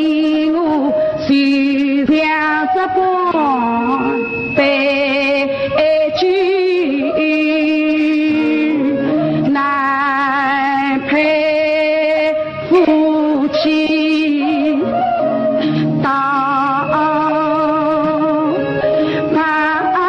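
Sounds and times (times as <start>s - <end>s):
instrumental accompaniment: 0.0s - 20.0s
woman singing opera: 0.0s - 20.0s.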